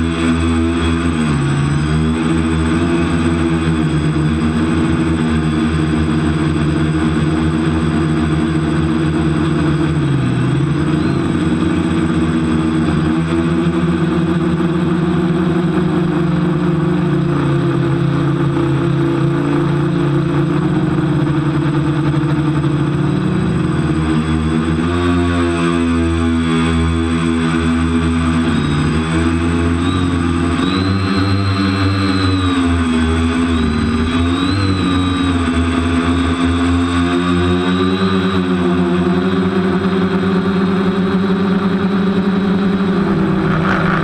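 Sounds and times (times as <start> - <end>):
quadcopter motors buzzing: 0.0 - 44.0.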